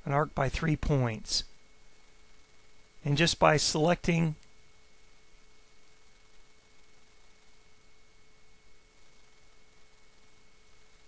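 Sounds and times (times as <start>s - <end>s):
faint steady hum tones: 0.0s - 11.0s
low steady hiss: 0.0s - 11.0s.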